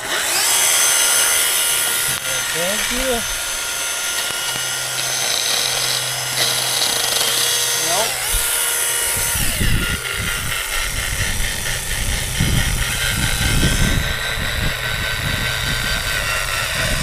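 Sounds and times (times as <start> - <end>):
electric chainsaw running: 0.0 - 17.0.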